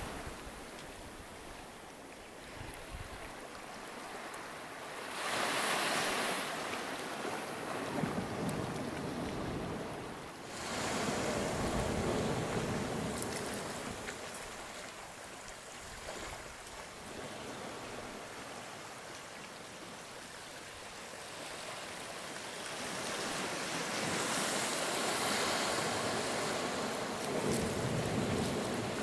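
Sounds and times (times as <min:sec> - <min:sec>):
ocean surf washing on beach: 0:00.0 - 0:29.0.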